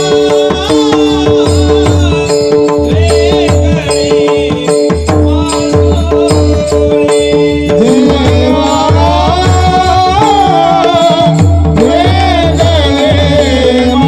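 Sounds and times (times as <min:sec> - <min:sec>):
hand drum beating: 0:00.0 - 0:14.0
man singing: 0:00.0 - 0:14.0.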